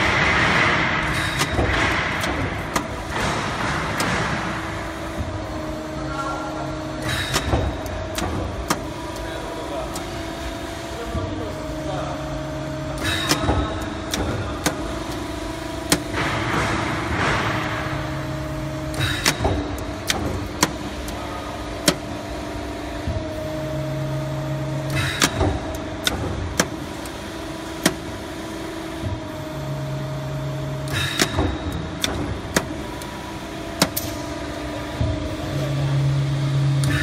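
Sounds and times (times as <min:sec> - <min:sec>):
machine hum: 0:00.0 - 0:37.0.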